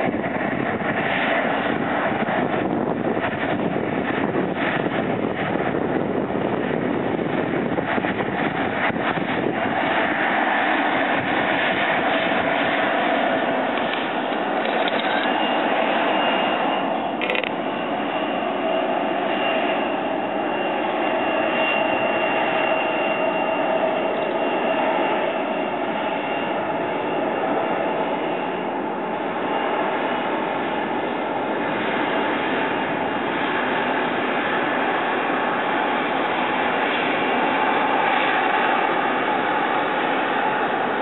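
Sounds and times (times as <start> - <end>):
distant jet engines running: 0.0 - 41.0.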